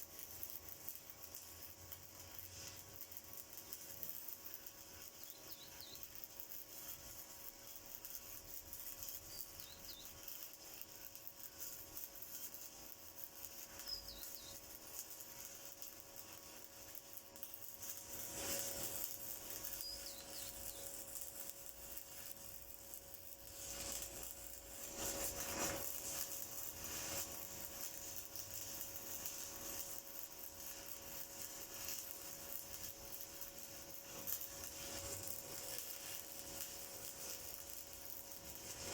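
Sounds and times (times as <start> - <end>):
welding arc crackling and sizzling: 0.0 - 38.9.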